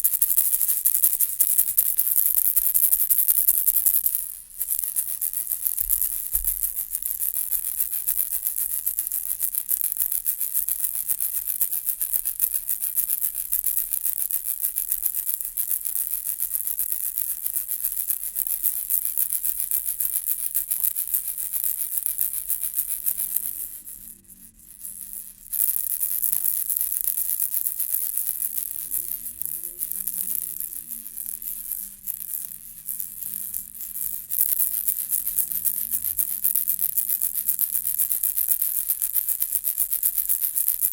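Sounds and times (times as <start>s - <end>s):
baby rattle shaking: 0.0s - 40.9s.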